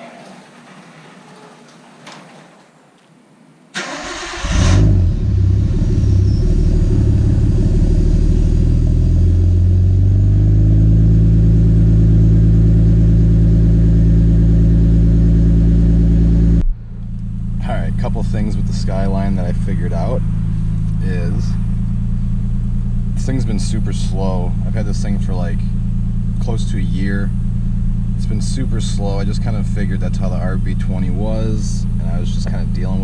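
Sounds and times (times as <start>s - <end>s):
car engine idling: 3.8s - 33.0s.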